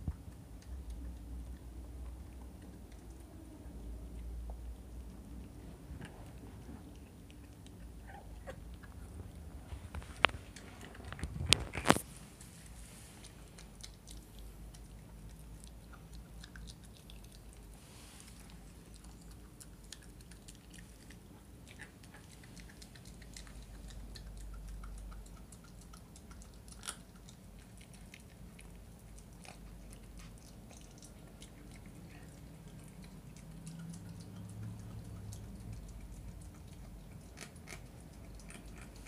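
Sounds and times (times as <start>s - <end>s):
low steady hum: 0.0s - 39.0s
puppy chewing bone: 0.0s - 39.0s.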